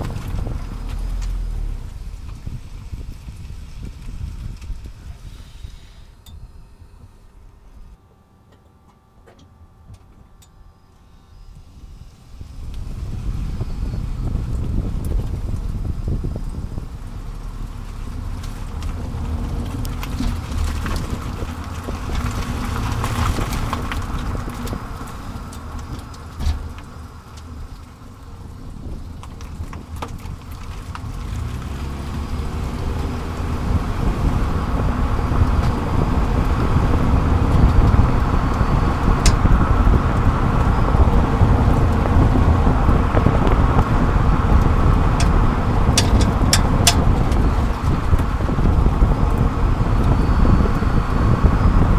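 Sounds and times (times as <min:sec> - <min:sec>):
wind rush: 0:00.0 - 0:08.0, 0:11.5 - 0:51.9
tyre and road noise: 0:00.0 - 0:51.9.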